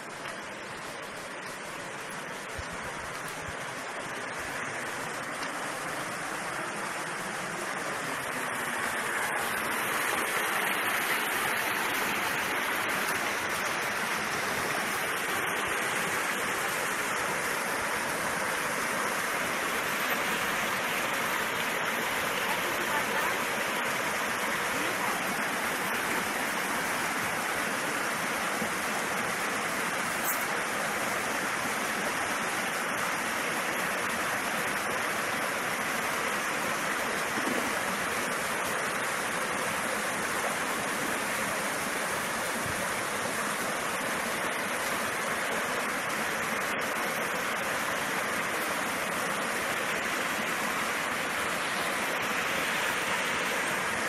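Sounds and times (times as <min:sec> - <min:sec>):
water rushing into rocky stream: 0:00.0 - 0:54.0.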